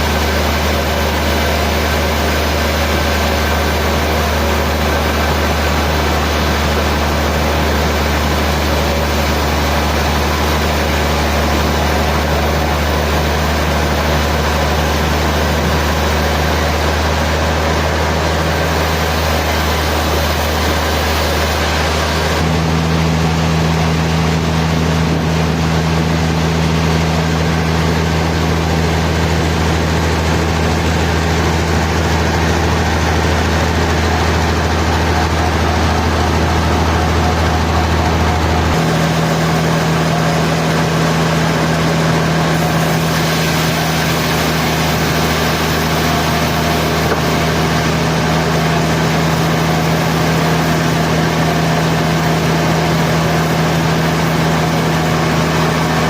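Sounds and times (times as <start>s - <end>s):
sawmill machinery humming: 0.0s - 56.0s.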